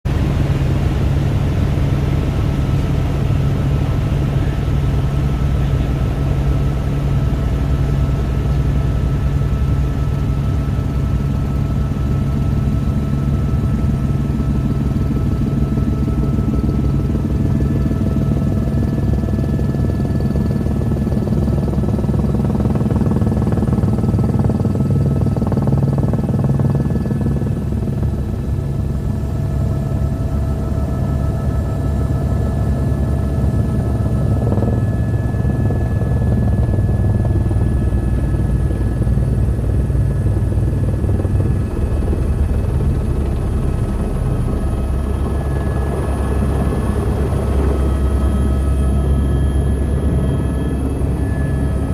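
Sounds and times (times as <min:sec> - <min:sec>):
high turbine whine: 0:00.1 - 0:51.9
helicopter rotor beating: 0:00.2 - 0:51.9.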